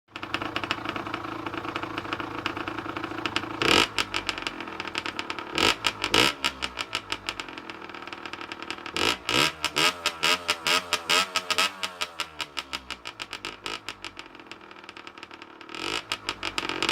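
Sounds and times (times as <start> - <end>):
two-stroke engine revving: 0.1 - 14.2, 15.2 - 16.9.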